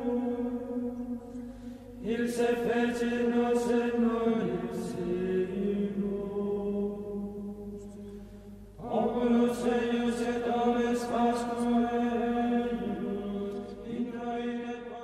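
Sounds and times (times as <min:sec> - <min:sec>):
slow vocal chanting: 0:00.0 - 0:15.0.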